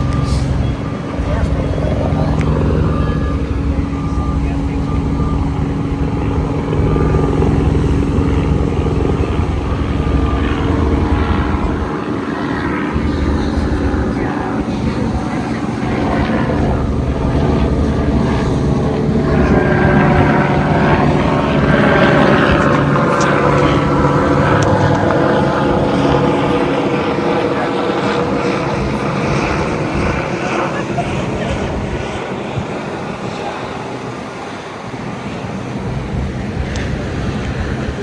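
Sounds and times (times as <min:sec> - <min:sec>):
engine droning: 0:00.0 - 0:38.0
high stacked-tone whine: 0:00.0 - 0:38.0.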